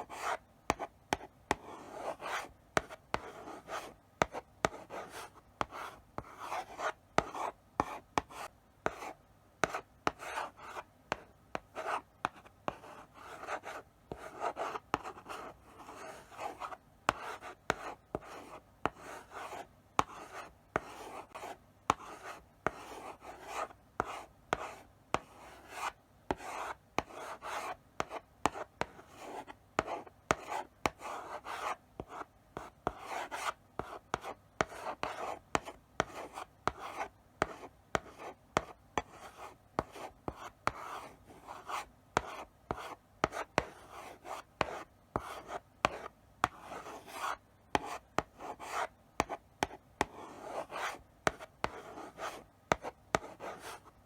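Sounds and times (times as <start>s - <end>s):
chalk scratching on blackboard: 0.0s - 54.0s
chalk tapping on board: 0.0s - 54.0s.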